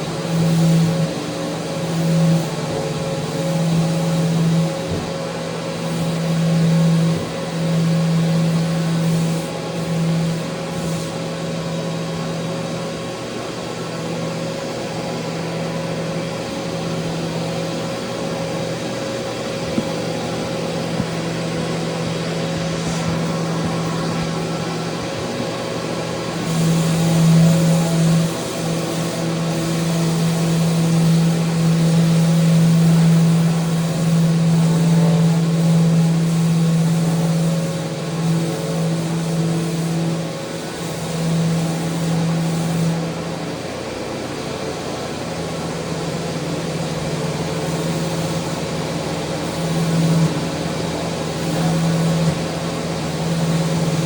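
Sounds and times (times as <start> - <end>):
electric sander on wood: 0.0 - 54.0.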